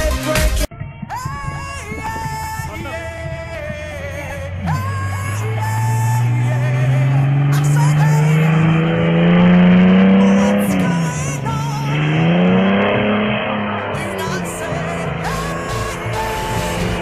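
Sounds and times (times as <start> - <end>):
car engine revving: 1.4 - 17.0.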